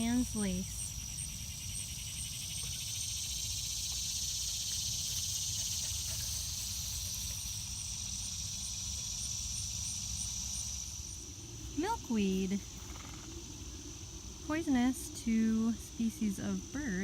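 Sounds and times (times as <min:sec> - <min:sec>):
high-pitched insect buzz: 0:00.0 - 0:14.5
insect chirping: 0:00.0 - 0:17.0.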